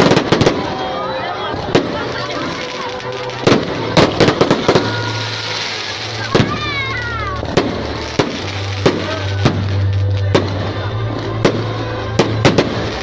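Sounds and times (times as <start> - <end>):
fireworks bangs: 0.0 - 13.0
steady background din: 0.0 - 13.0.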